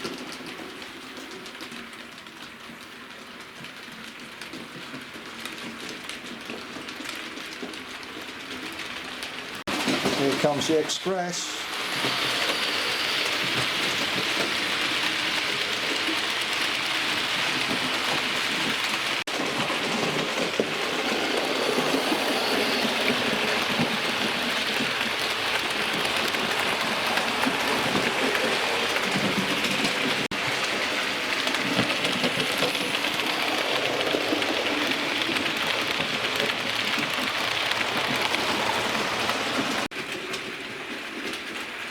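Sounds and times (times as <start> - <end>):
model train wheels on rail: 0.0 - 41.9.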